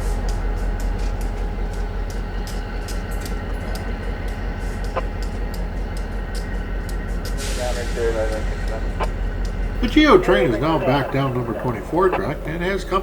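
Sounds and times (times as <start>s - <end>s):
faint steady tones: 0.0s - 13.0s
locomotive low rumble: 0.0s - 13.0s.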